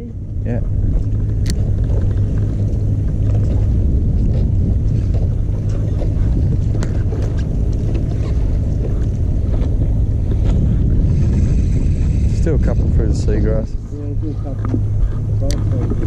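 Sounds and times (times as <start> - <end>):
boat engine rumble: 0.0 - 16.0
wind on microphone: 0.0 - 16.0.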